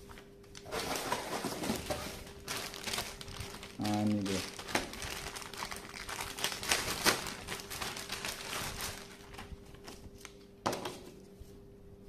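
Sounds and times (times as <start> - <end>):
faint steady hum: 0.0 - 12.0
plastic bag crinkling: 0.1 - 10.4.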